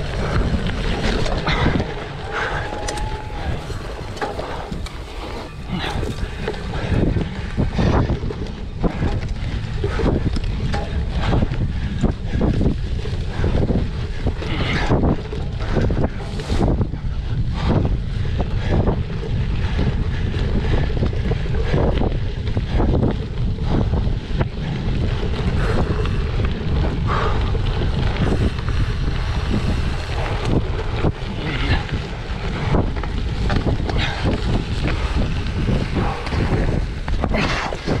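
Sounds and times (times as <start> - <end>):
bike knocking and rattling: 0.0 - 38.0
wind buffeting microphone: 0.0 - 38.0.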